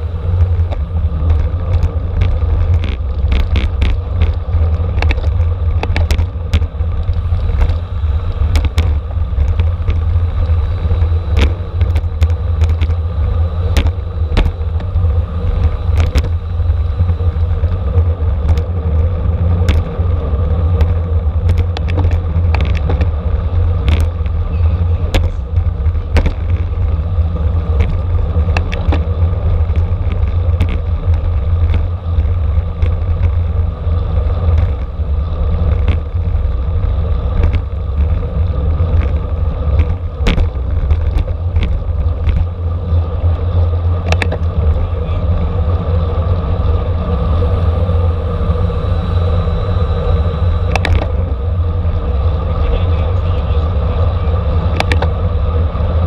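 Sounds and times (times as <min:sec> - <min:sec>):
bike clicks and rattles: 0:00.0 - 0:56.0
wind and road rumble: 0:00.0 - 0:56.0.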